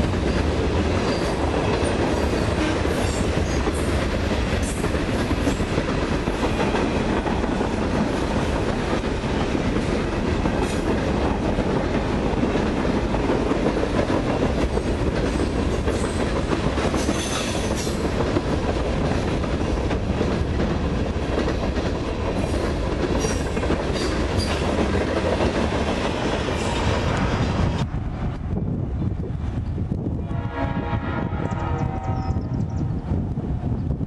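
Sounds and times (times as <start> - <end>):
freight train wheels on rails: 0.0 - 34.0.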